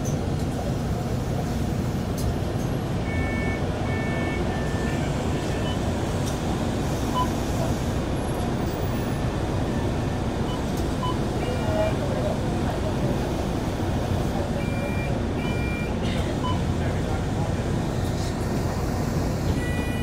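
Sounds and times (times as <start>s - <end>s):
bus engine and road noise: 0.0s - 20.0s.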